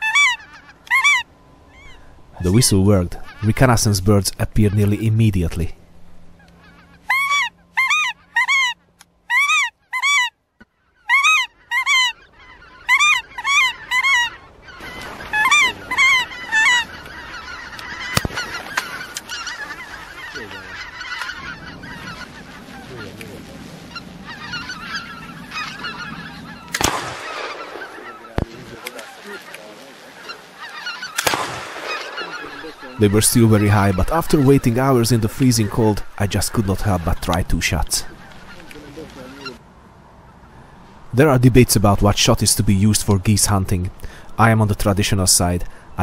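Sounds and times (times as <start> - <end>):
goose call honks: 0.0 - 5.2, 6.3 - 10.4, 11.0 - 39.6
flock of geese honking: 0.0 - 46.0.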